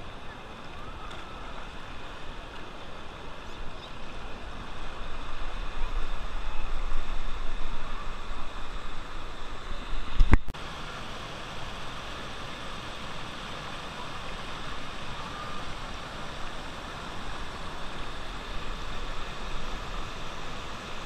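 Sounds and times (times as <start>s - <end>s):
faint voices: 0.0s - 10.0s, 10.6s - 21.0s
river water splashing: 0.0s - 21.0s
waterfall rushing: 0.0s - 21.0s.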